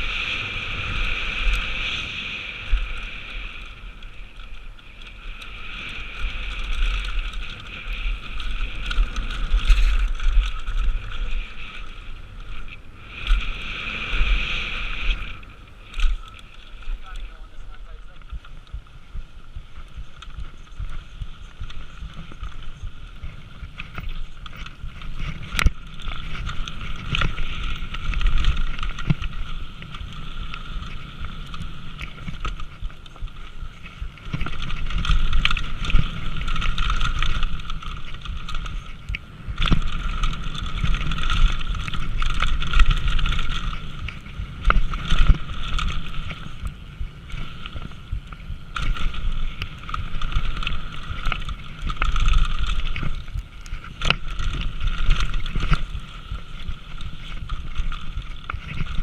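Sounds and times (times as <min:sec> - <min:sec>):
bike knocking and rattling: 0:00.0 - 0:59.0
tyres rumbling on dirt: 0:00.0 - 0:59.0
wind on microphone: 0:00.0 - 0:59.0.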